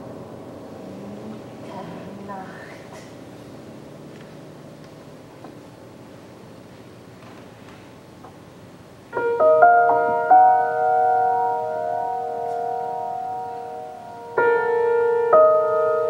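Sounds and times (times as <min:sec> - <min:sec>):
grand piano chords: 0:00.0 - 0:07.2, 0:08.0 - 0:16.0.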